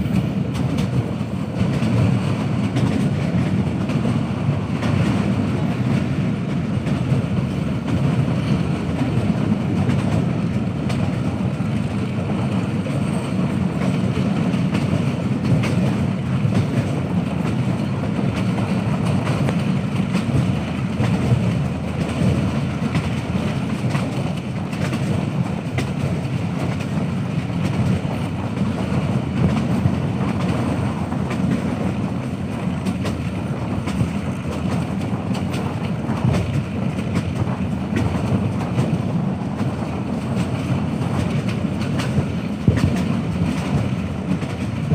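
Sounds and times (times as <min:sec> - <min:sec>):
train coaches rumbling: 0:00.0 - 0:44.9
wheels clattering on rails: 0:00.0 - 0:44.9.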